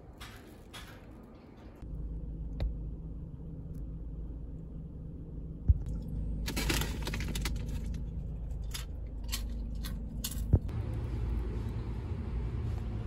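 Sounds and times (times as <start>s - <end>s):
low steady rumble: 1.7s - 13.0s.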